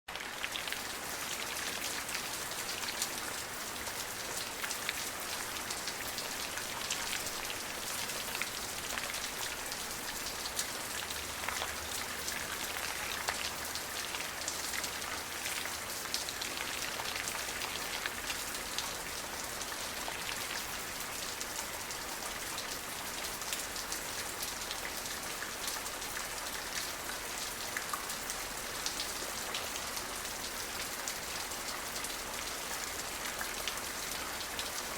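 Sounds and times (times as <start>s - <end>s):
rain falling on a surface: 0.1s - 34.9s.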